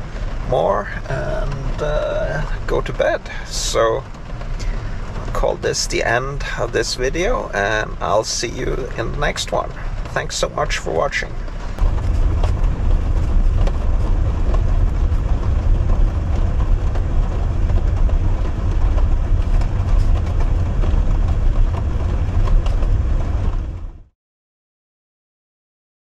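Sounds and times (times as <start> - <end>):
heavy rain drumming on a van: 0.0 - 24.1.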